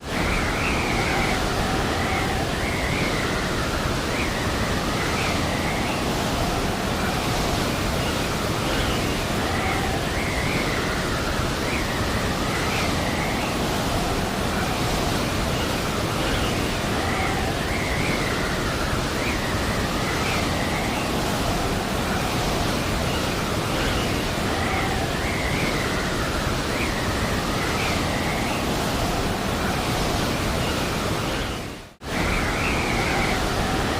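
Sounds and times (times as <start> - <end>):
blizzard wind roaring: 0.0 - 33.9
faint wind howl: 0.0 - 33.9.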